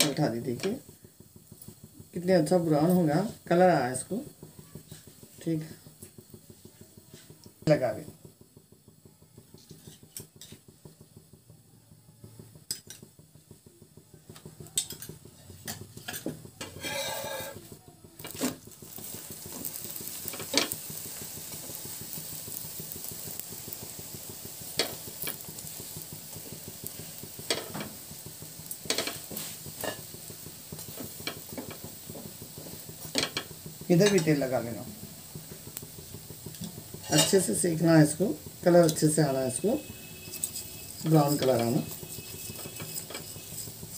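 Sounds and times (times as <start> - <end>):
spatula tapping and scraping pan: 0.0 - 11.6, 12.2 - 43.9
flatbread sizzling in oil: 0.0 - 43.9.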